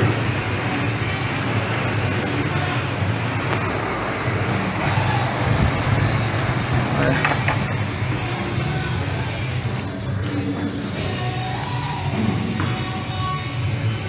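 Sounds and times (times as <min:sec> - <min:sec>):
rowing machine flywheel whirring: 0:00.0 - 0:11.3.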